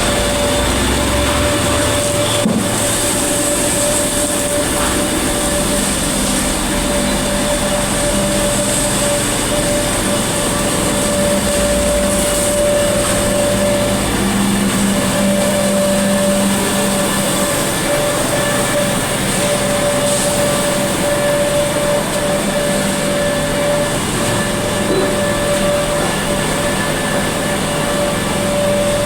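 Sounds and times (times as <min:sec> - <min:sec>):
machine humming with hiss: 0:00.0 - 0:29.0.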